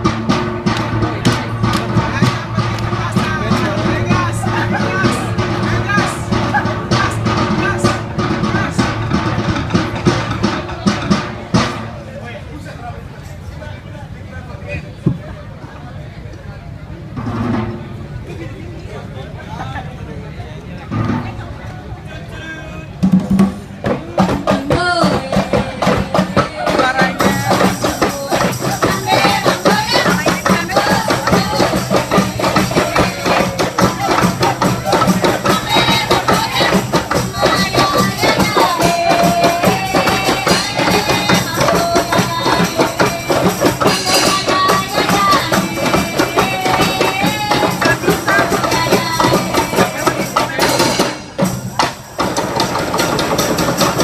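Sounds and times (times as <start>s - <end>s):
drums and percussion ensemble: 0.0s - 15.6s, 16.6s - 18.6s, 20.7s - 54.0s.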